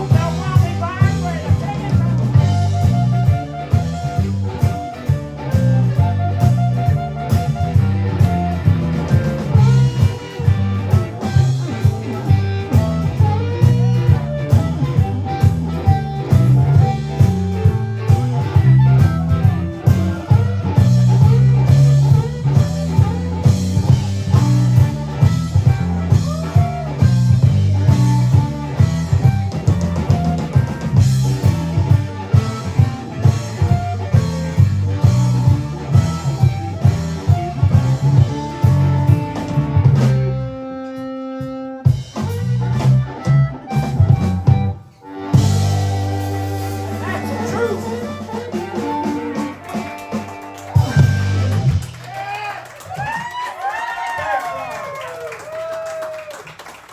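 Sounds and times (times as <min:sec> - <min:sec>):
electric guitar: 0:00.0 - 0:56.9
live blues band playing: 0:00.0 - 0:56.9.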